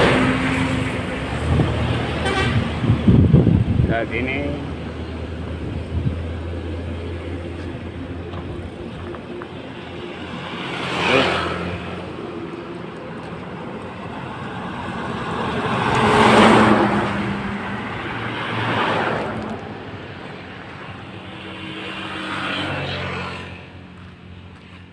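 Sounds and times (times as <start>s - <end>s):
low engine hum: 0.0s - 22.0s
vehicles passing by: 0.0s - 24.9s.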